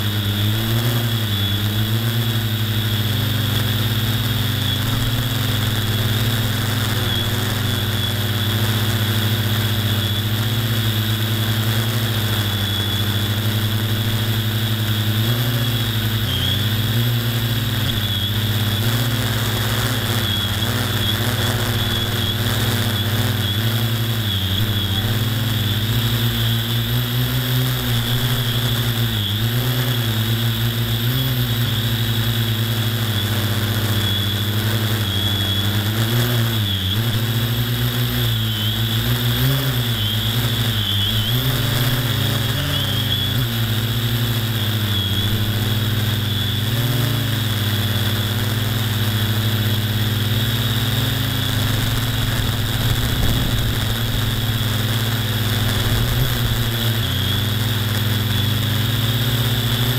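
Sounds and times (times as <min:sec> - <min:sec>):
high whine: 0:00.0 - 0:59.9
low engine-like drone: 0:00.0 - 0:59.9.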